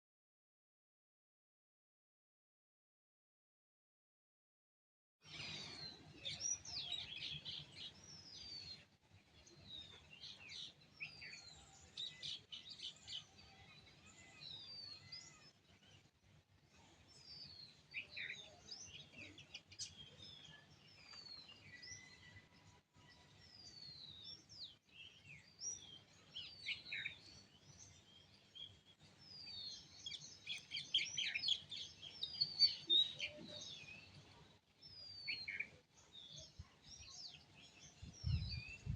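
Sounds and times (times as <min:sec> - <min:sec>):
songbirds chirping: 0:05.2 - 0:38.9.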